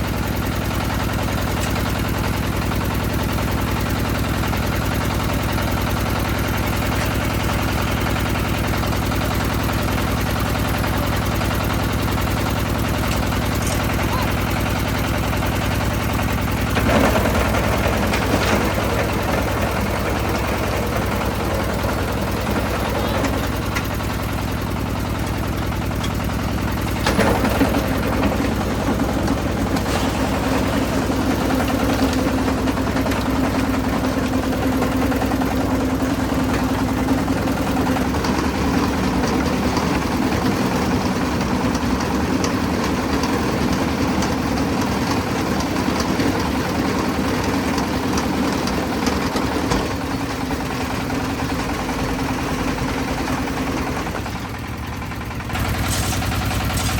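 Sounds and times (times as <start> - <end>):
concrete mixer drum turning: 0.0 - 56.9.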